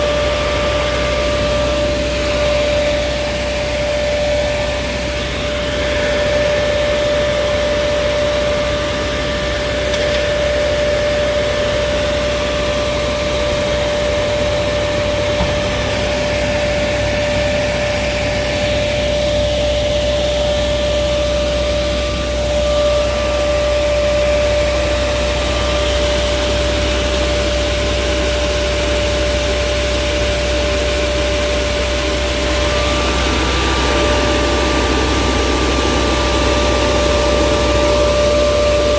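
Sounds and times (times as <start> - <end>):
low engine drone: 0.0 - 38.9
steady whining tone: 0.0 - 38.9.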